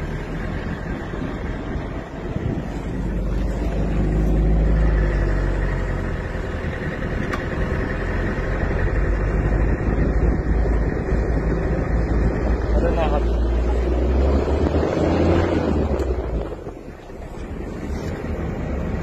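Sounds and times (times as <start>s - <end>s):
wind buffeting microphone: 0.0s - 18.6s
engine and tyre rumble: 0.0s - 19.0s.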